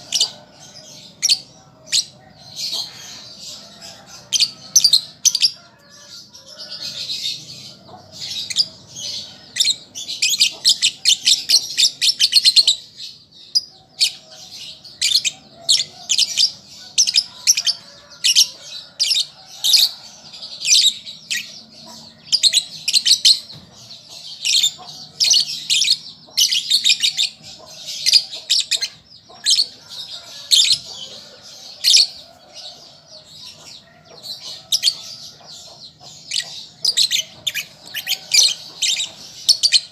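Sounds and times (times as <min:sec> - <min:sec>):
lovebird chattering chirps: 0:00.0 - 0:32.2, 0:33.6 - 0:39.9.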